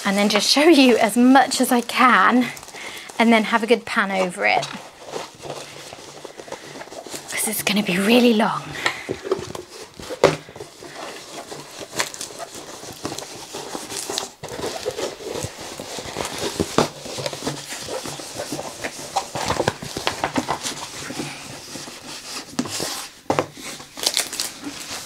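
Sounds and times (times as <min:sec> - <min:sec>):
plastic film rustling and crinkling: 0:00.0 - 0:25.0.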